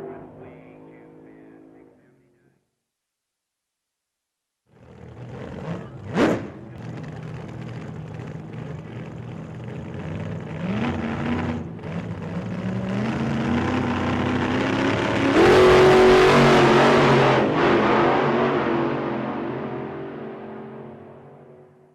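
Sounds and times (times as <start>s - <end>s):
racing car engines accelerating: 0.0s - 2.1s, 4.7s - 21.9s.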